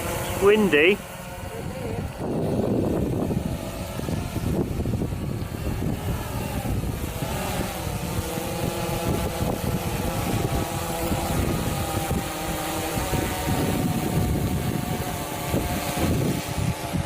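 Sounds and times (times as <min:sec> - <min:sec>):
drone propellers whining: 0:00.0 - 0:17.0
wind rumble on microphone: 0:00.0 - 0:17.0.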